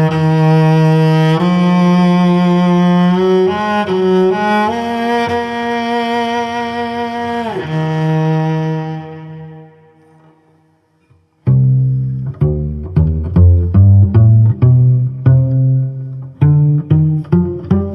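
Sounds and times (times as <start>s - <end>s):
solo cello bowed: 0.0s - 17.9s.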